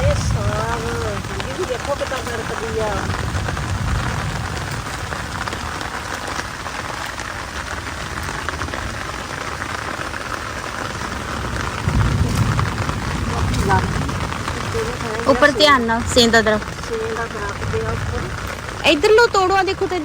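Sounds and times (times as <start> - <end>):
heavy rain falling: 0.0 - 20.0
thunder rumbling: 0.0 - 20.0.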